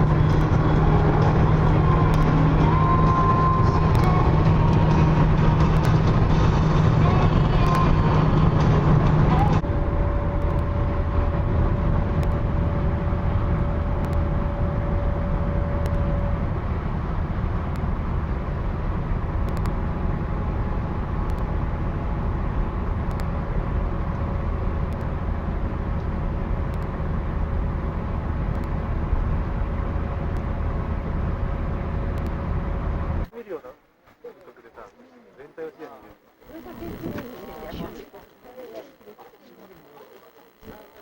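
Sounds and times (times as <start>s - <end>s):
car engine and road rumble: 0.0s - 34.0s, 36.1s - 41.0s
thin steady whine: 0.0s - 41.0s.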